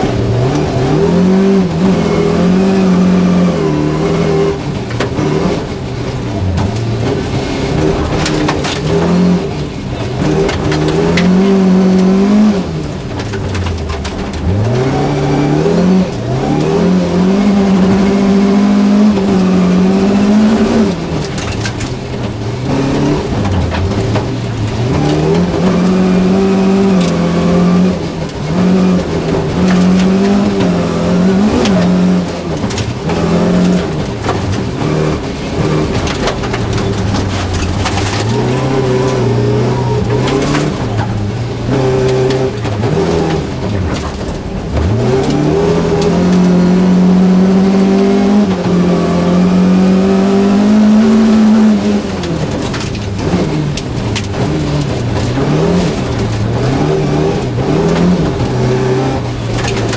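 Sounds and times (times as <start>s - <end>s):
gravel striking car: 0.0s - 59.9s
rally car engine revving: 0.0s - 59.9s.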